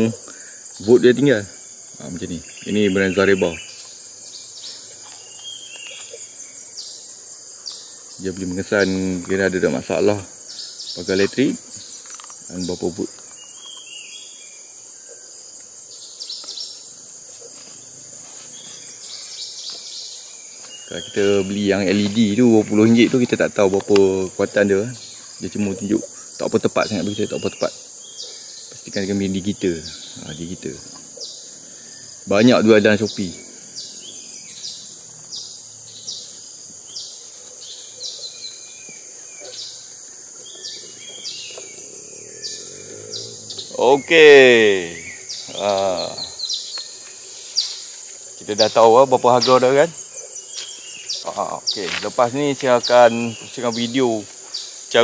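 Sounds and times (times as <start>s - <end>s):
bird chirps: 0.0s - 55.0s
insects chorus: 0.0s - 55.0s.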